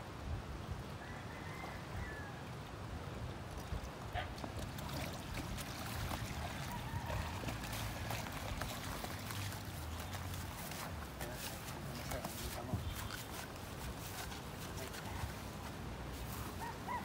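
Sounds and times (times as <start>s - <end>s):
water trickling and splashing: 2.6s - 16.8s.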